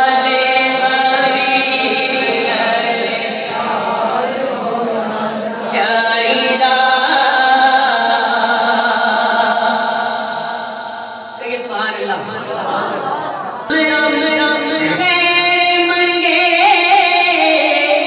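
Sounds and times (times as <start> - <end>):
man chanting through loudspeakers: 0.0 - 10.6, 13.7 - 18.0.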